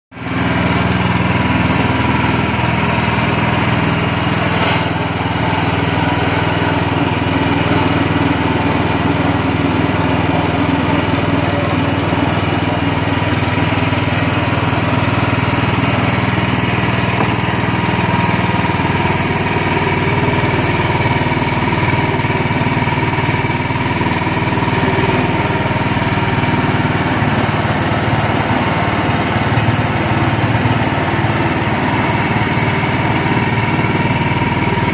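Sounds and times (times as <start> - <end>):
small gasoline engine running: 0.1 - 34.9.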